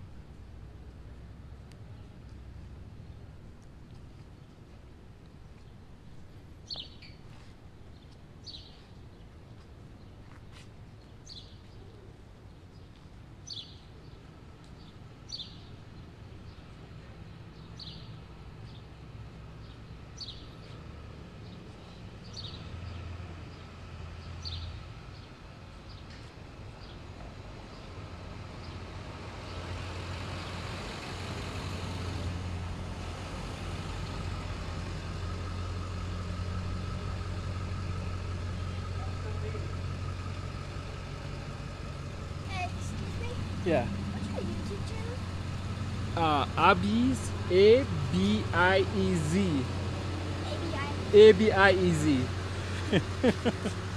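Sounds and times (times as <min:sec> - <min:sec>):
low rumble of vehicle engines: 0:00.0 - 0:53.9.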